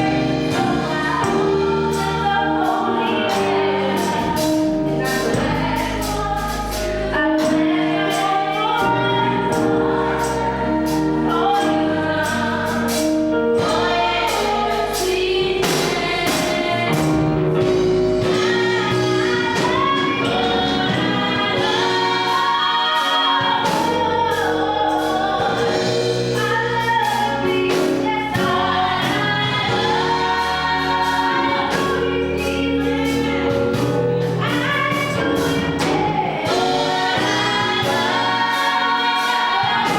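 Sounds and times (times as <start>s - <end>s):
bass and drums: 0.0s - 39.9s
gospel choir singing: 0.0s - 39.9s.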